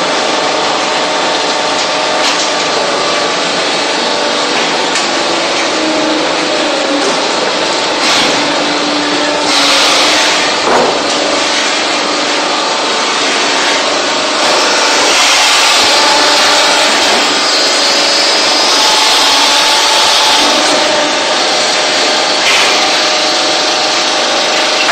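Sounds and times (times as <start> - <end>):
hydraulic press hiss and hum: 2.8 - 24.9.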